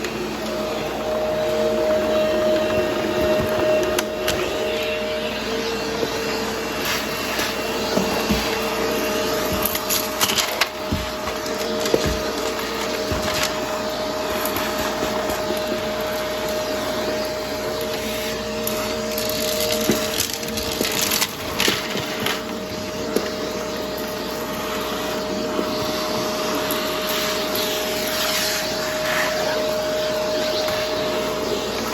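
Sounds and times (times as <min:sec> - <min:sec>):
vacuum cleaner motor whine: 0:00.0 - 0:31.9.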